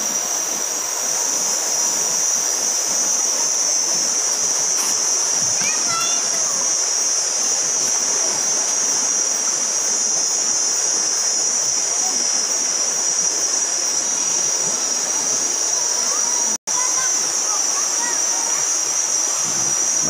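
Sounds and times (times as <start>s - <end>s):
high-pitched buzz: 0.0s - 20.0s.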